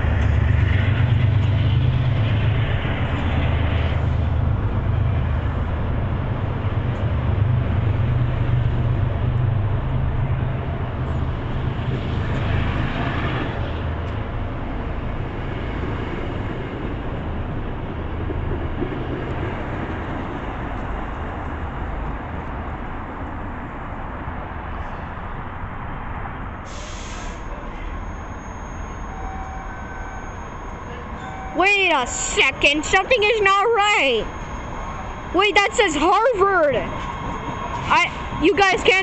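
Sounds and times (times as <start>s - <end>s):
train rumbling on tracks: 0.0s - 39.0s.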